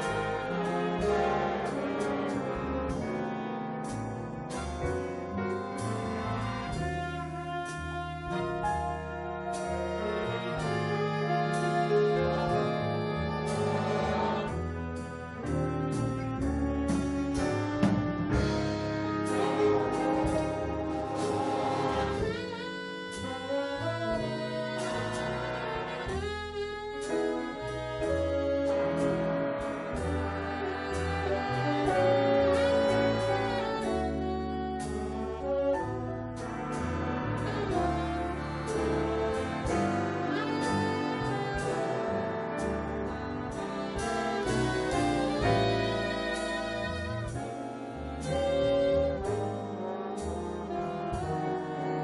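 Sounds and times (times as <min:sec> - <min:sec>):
jazz band playing slow piece: 0:00.0 - 0:52.0.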